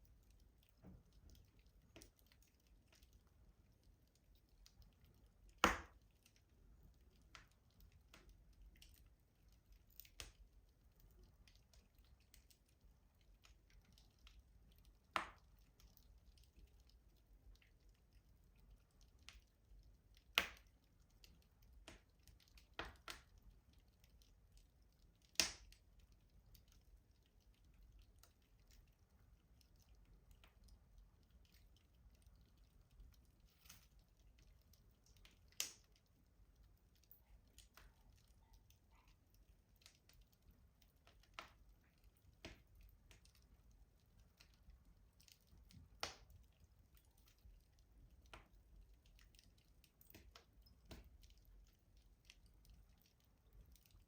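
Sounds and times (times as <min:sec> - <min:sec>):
wood fire crackling in a stove: 0:00.0 - 0:54.0.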